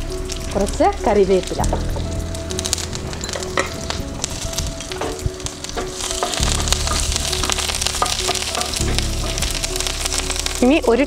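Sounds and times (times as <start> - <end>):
soft background music: 0.0 - 11.0
spices sizzling in hot oil: 0.0 - 11.0.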